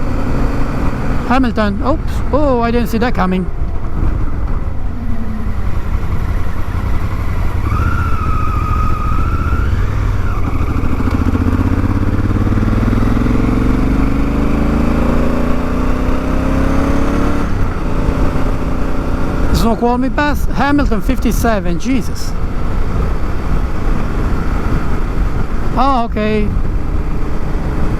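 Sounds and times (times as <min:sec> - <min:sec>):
motorcycle engine running: 0:00.0 - 0:27.9
wind rumble: 0:00.0 - 0:27.9.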